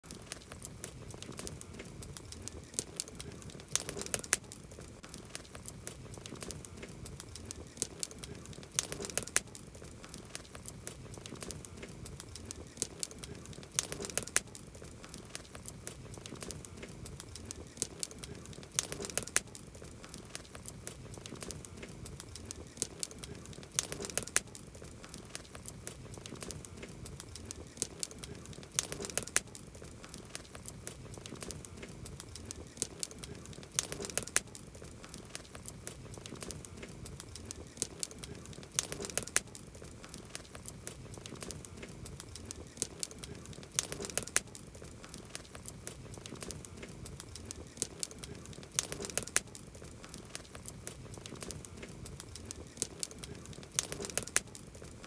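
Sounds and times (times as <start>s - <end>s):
wood campfire crackling: 0.0s - 55.0s.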